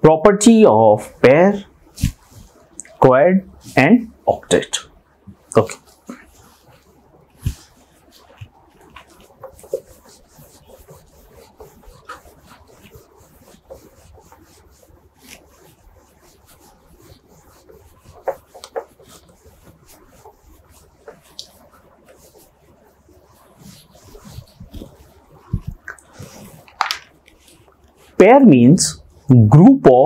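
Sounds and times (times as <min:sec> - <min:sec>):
eraser rubbing on whiteboard: 0:01.0 - 0:29.3.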